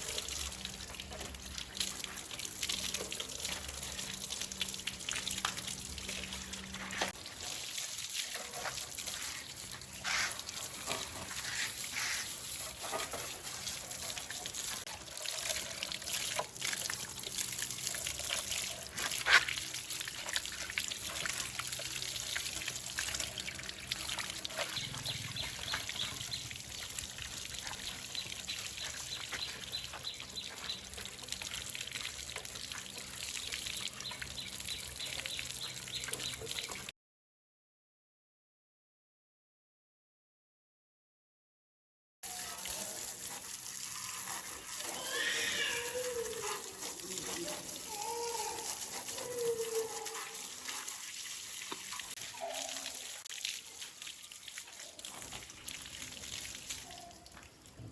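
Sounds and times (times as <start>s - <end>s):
water trickling: 0.0s - 36.9s, 42.2s - 57.9s.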